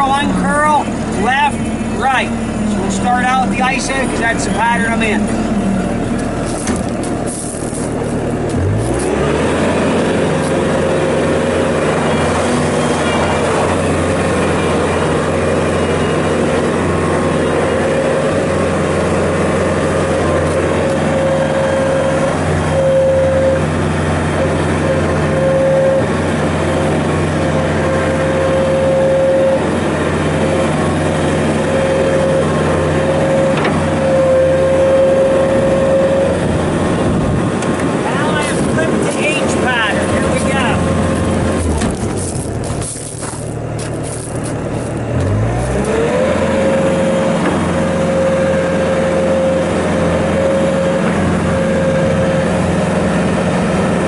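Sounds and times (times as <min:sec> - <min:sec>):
diesel engine running: 0:00.0 - 0:54.0
hydraulic whine: 0:00.0 - 0:54.0.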